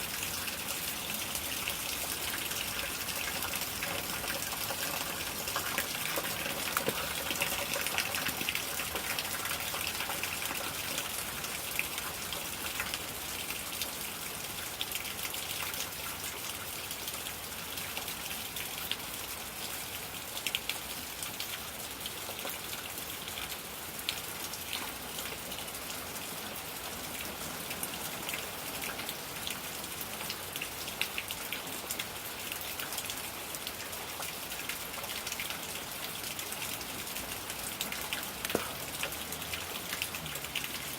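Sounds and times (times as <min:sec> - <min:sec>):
raindrops hitting nearby surfaces: 0:00.0 - 0:40.9
steady rain falling: 0:00.0 - 0:40.9.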